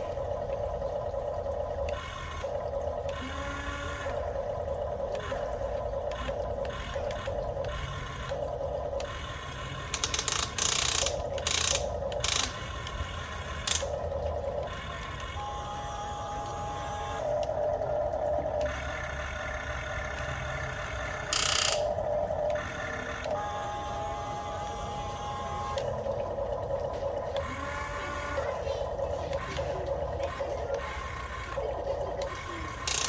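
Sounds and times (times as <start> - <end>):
toy gear motors whining: 1.8 - 4.4, 5.0 - 14.0, 14.6 - 33.0.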